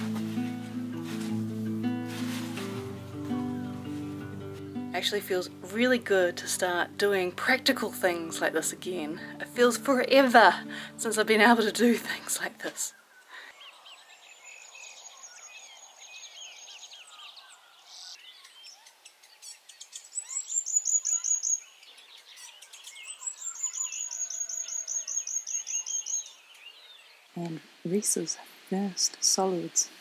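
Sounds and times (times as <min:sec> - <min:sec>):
small birds chirping: 0:03.3 - 0:30.0.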